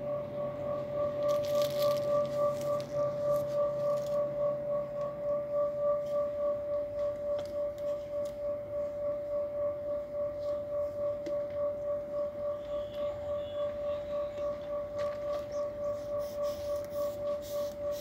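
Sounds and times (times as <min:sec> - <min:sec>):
wavering high electronic tone: 0:00.0 - 0:18.0.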